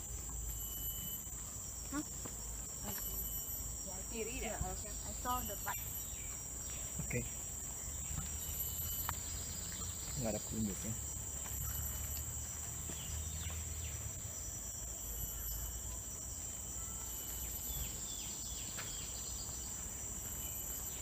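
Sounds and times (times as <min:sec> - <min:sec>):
high-pitched insect drone: 0:00.0 - 0:21.0
bird chirps: 0:02.8 - 0:21.0.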